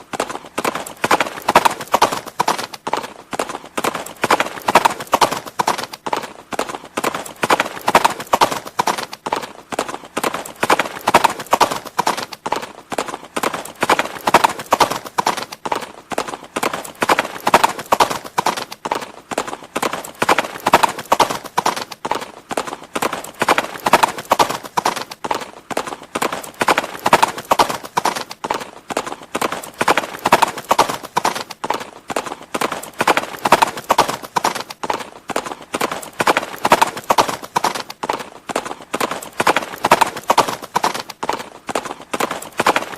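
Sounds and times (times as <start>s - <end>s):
horse hooves clip-clopping: 0.0s - 42.9s.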